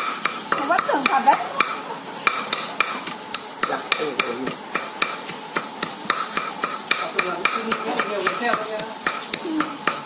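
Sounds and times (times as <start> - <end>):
knife chopping on wooden block: 0.0 - 10.0.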